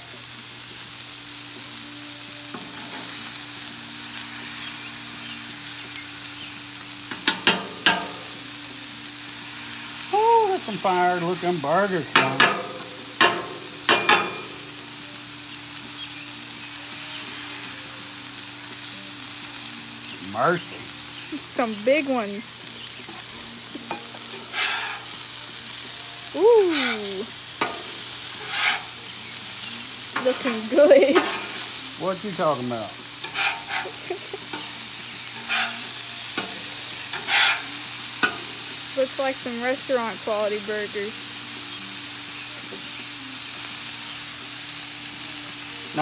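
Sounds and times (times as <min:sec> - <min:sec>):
food sizzling on a griddle: 0:00.0 - 0:46.0.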